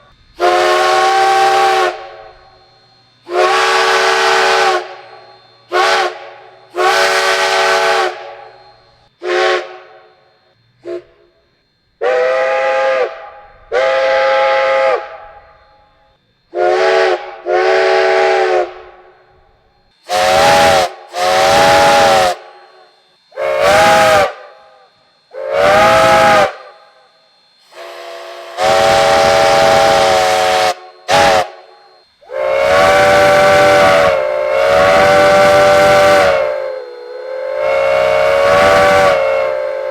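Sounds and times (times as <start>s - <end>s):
steam hissing: 0.0s - 11.3s, 16.5s - 39.9s
steam locomotive chime whistle: 0.0s - 39.9s.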